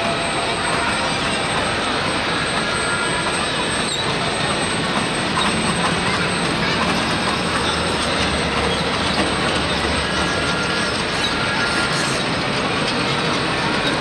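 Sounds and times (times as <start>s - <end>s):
miniature train wheels on rails: 0.0s - 14.0s.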